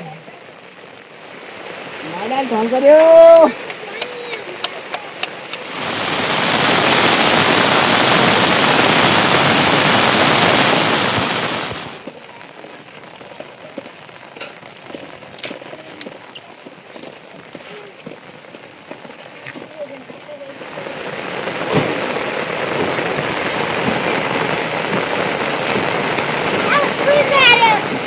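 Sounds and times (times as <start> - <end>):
heavy rain falling: 0.0 - 28.0
light rain with drips: 0.0 - 28.0.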